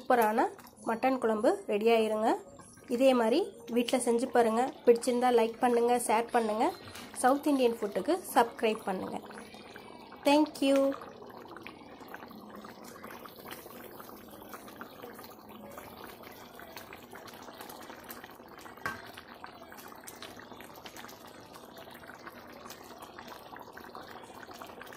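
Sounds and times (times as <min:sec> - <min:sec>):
curry bubbling in a pot: 0:00.0 - 0:24.9.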